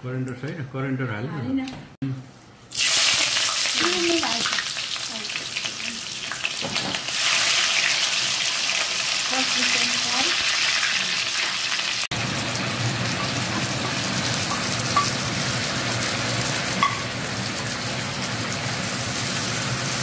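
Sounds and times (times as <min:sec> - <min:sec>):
oil sizzling in a wok: 0:02.7 - 0:20.0.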